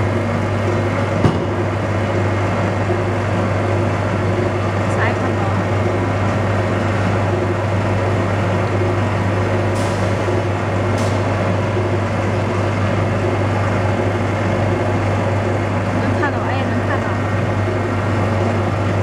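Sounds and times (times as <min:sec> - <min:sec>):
mixer machine droning: 0:00.0 - 0:19.0.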